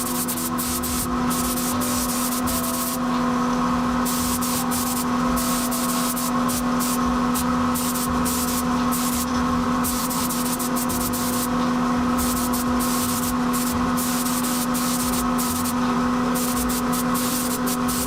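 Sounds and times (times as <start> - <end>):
spray paint hissing bursts: 0.0 - 3.2, 4.0 - 18.0
steady hum: 0.0 - 18.0.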